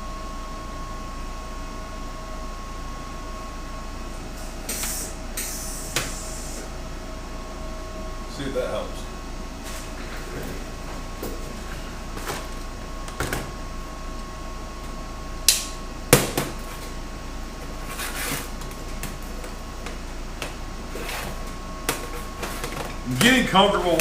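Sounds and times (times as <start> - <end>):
machine hum with faint whine: 0.0 - 24.0.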